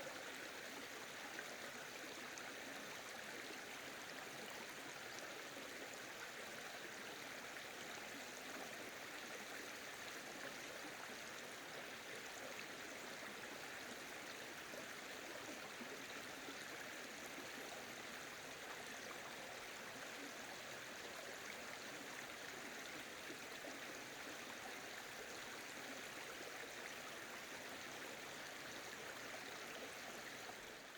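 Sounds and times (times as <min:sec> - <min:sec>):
stream flowing over rocks: 0:00.0 - 0:30.9.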